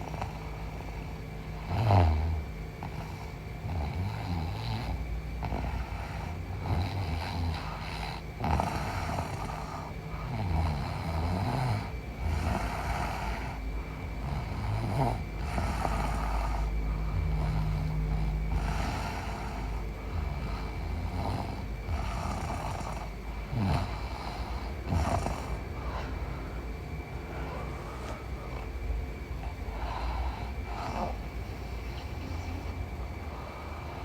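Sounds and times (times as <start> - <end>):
woman snoring: 0.0 - 34.0.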